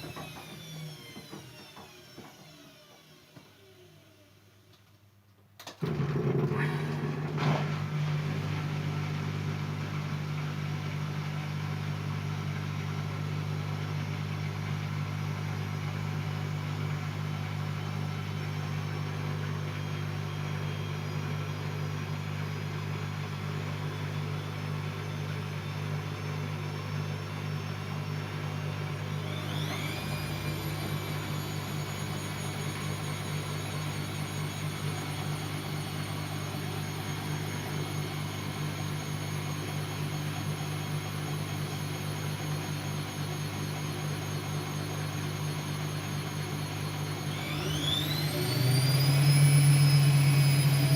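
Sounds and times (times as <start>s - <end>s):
washing machine motor hum: 0.0s - 4.4s, 5.8s - 50.9s.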